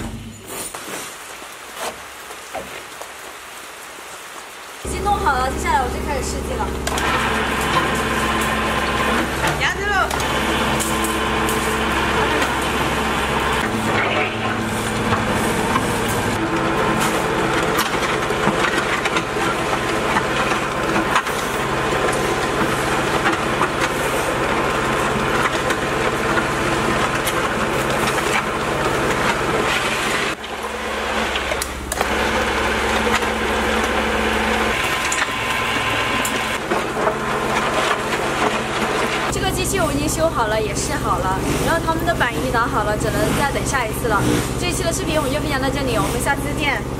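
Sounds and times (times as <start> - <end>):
electric motor hum: 4.8 - 46.9
concrete churning in mixer: 4.9 - 46.9.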